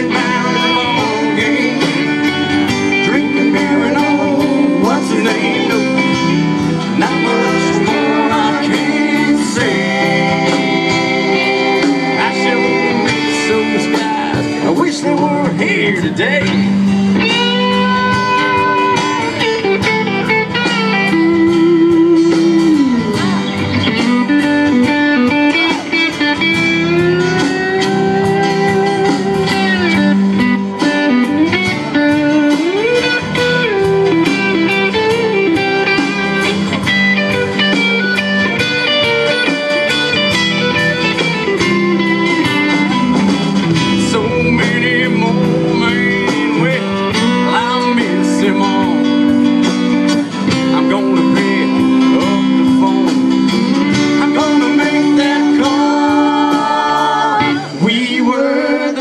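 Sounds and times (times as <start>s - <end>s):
lead guitar bending notes: 0.0s - 59.0s
live band playing: 0.0s - 59.0s.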